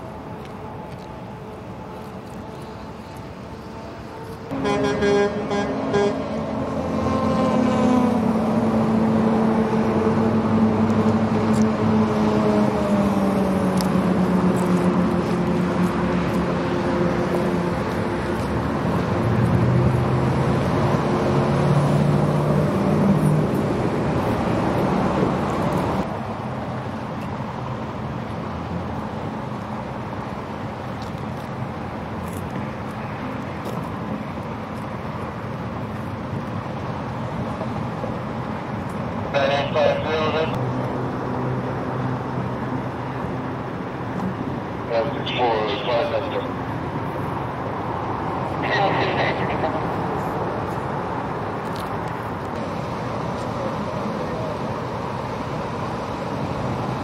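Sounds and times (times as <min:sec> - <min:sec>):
steady road hum: 0:00.0 - 0:57.0
vehicles passing on freeway: 0:00.0 - 0:57.0.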